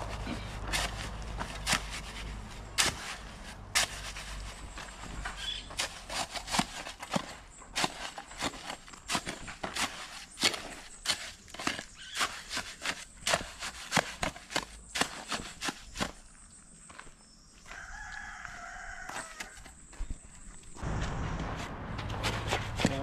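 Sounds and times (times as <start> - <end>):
shovel scraping sand and cement: 0.0 - 16.4, 20.8 - 23.0.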